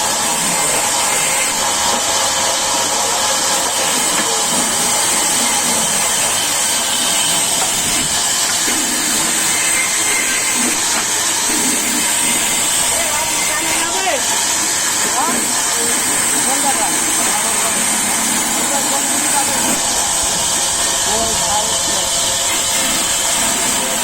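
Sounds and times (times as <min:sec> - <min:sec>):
sawmill saw cutting timber: 0:00.0 - 0:24.0.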